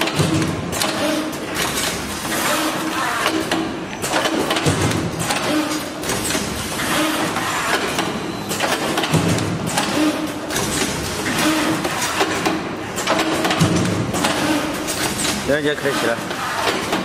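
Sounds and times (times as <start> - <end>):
wire forming machine clattering: 0.0 - 17.0.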